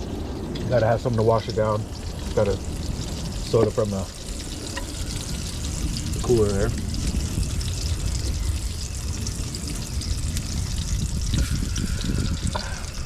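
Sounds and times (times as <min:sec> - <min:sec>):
steady rain falling: 0:00.0 - 0:13.0
water trickling: 0:00.0 - 0:13.0.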